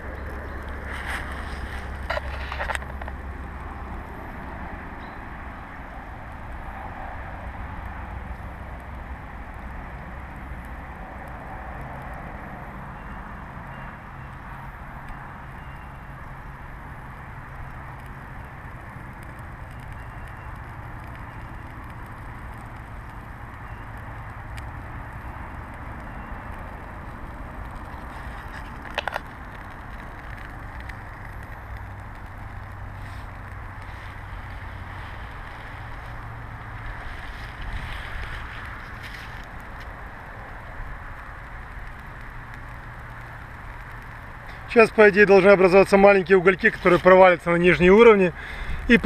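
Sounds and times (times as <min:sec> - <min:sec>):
campfire crackling: 0:00.0 - 0:49.0
fire popping: 0:00.0 - 0:49.0
low rumble and hiss: 0:00.0 - 0:49.0.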